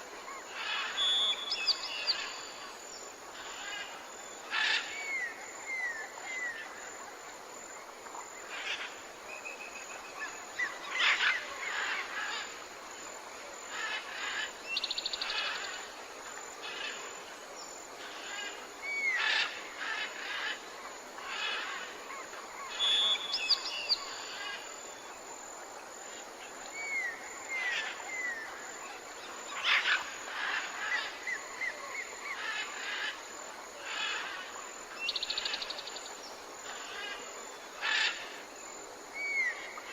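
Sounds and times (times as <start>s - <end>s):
high insect drone: 0.1s - 39.9s.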